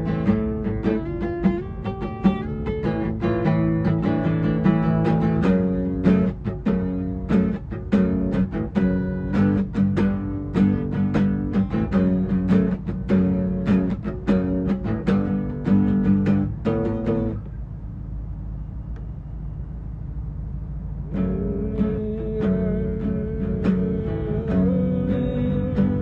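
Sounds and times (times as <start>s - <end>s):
acoustic guitar strumming: 0.0s - 17.6s, 21.1s - 26.0s.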